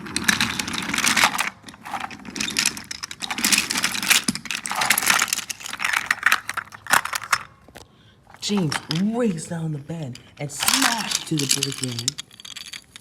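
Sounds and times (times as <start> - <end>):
wooden toy train clattering: 0.0 - 13.0.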